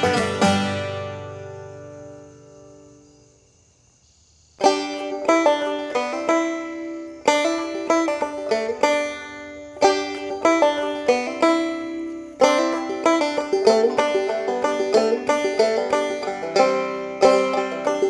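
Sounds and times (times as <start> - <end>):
plucked banjo country tune: 0.0 - 3.1, 4.6 - 18.0.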